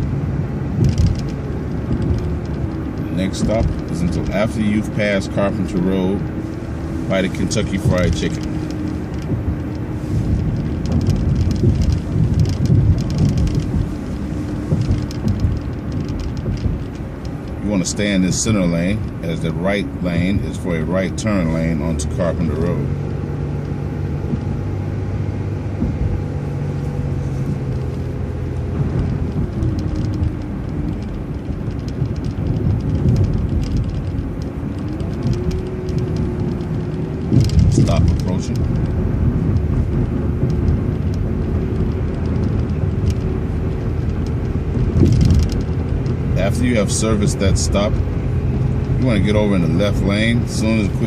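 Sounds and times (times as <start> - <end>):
bus engine and road rumble: 0.0 - 51.0
drivetrain whine: 0.0 - 51.0
small rattles and clicks: 0.7 - 51.0.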